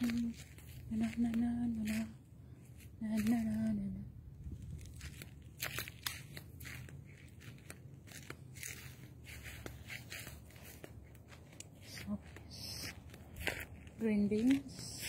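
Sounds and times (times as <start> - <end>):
faint low hum: 0.0 - 15.0
footsteps on dry soil and leaves: 0.0 - 15.0.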